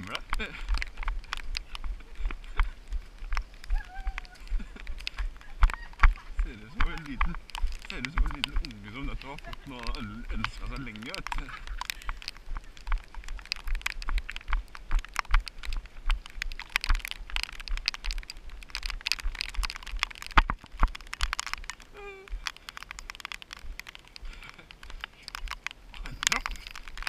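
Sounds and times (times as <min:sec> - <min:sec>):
footsteps on wet trail: 0:00.0 - 0:27.0.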